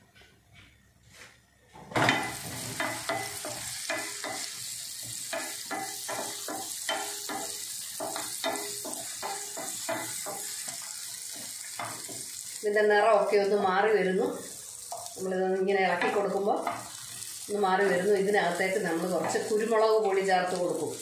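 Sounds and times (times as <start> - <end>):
sausage sizzling in a frying pan: 2.0 - 21.0.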